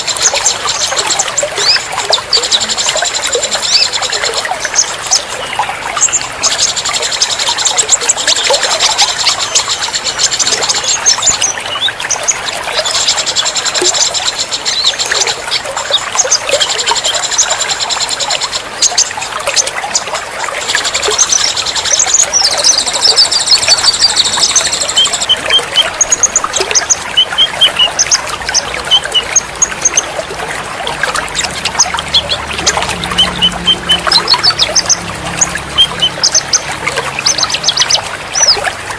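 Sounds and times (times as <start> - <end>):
songbirds singing: 0.0 - 38.9
trickle of running water: 0.0 - 38.9.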